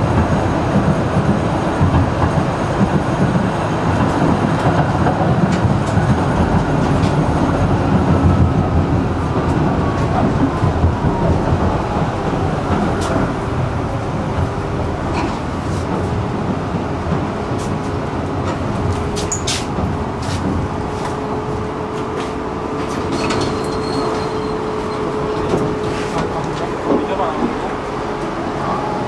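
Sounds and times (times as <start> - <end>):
tram wheels rumbling on rail: 0.0 - 29.0
tram whine: 0.0 - 29.0.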